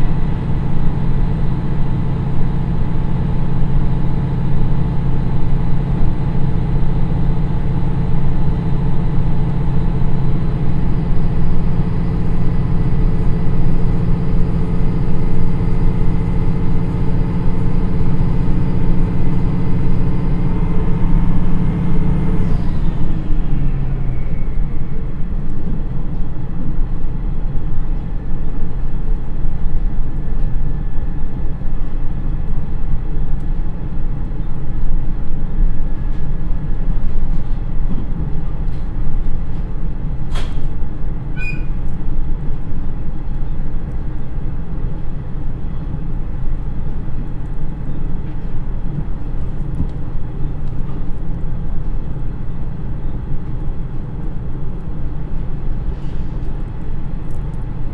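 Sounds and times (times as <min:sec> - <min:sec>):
diesel railcar engine rumble: 0:00.0 - 0:57.9.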